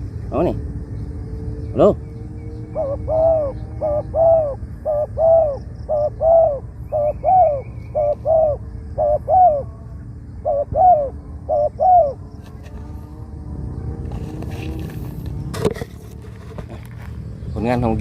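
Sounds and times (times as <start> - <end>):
dove cooing: 0.0 - 16.9.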